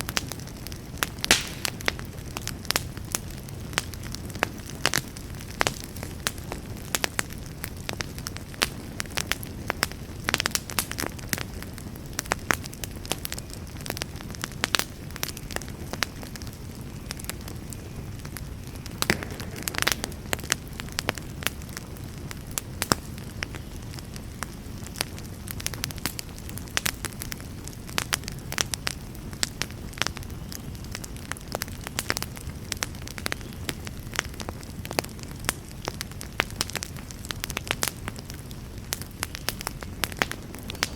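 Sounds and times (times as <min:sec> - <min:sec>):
fire burning with crackles: 0:00.0 - 0:40.9.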